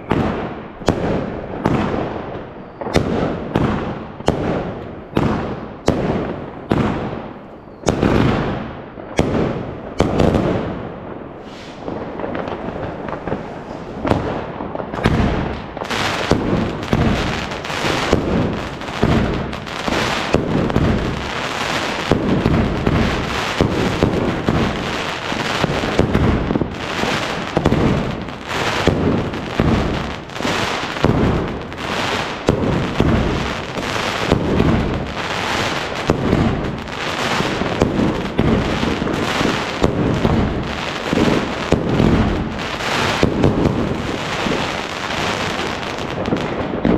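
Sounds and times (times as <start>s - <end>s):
fireworks banging: 0.0s - 46.9s.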